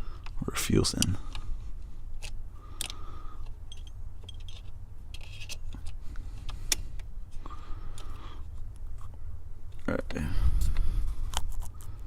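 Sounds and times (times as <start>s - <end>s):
small clicks and rattles of parts: 2.1s - 12.0s.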